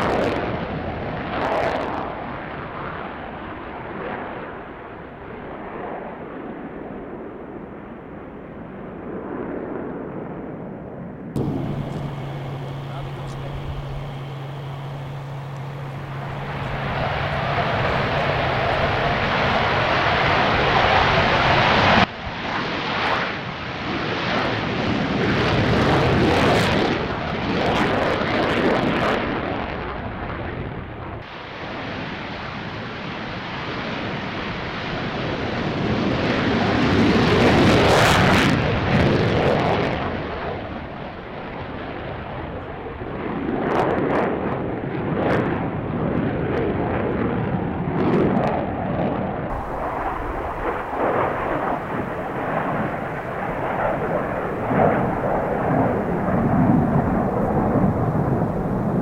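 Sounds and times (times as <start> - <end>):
aircraft engine roar: 11.4 - 59.0.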